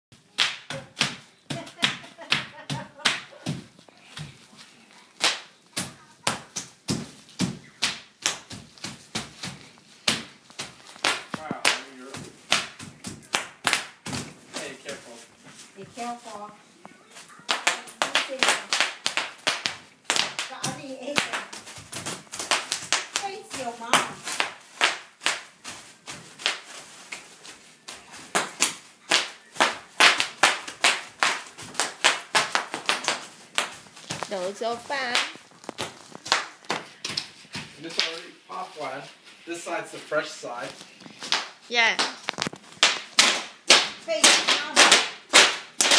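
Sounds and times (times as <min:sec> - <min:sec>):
bubble wrap popping underfoot: 0:00.2 - 0:45.9.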